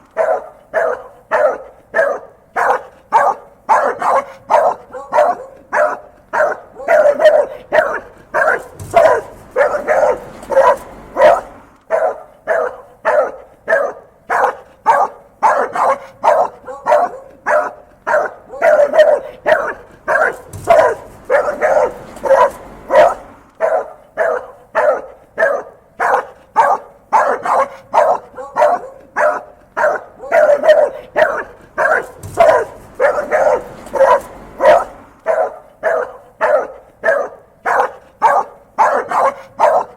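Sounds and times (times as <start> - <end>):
dog barking angrily: 0.0 - 39.9.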